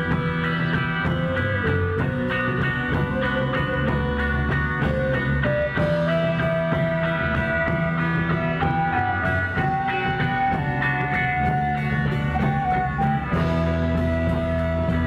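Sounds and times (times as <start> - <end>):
drum kit: 0.0 - 15.0
electric guitar: 0.0 - 15.0
rock music: 0.0 - 15.0.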